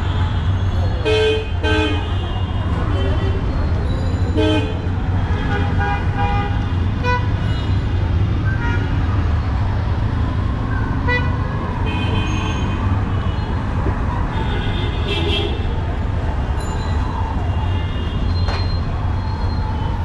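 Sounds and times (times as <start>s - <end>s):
traffic engines rumbling: 0.0s - 20.0s.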